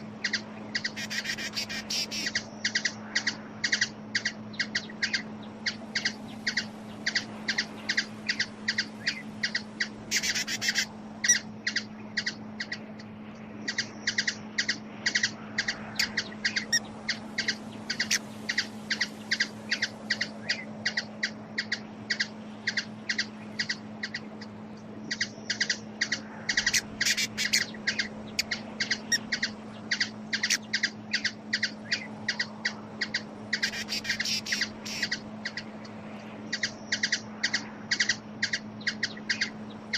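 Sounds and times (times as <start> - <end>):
small bird chip calls: 0.0 - 39.9
steady low hum: 0.0 - 39.9.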